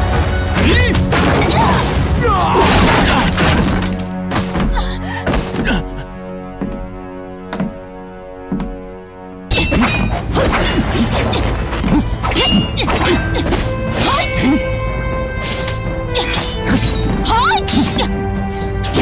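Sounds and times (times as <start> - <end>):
dramatic background music: 0.0 - 19.0.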